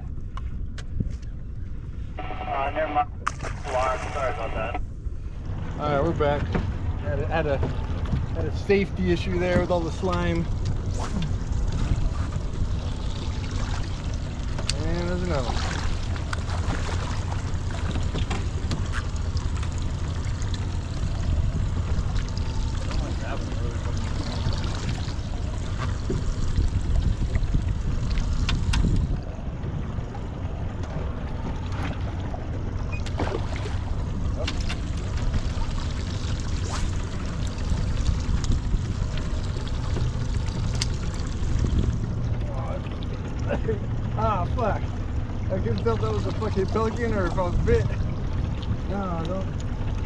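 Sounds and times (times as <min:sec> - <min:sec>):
wind rumble on microphone: 0:00.0 - 0:50.0
water lapping against boat hull: 0:02.9 - 0:50.0.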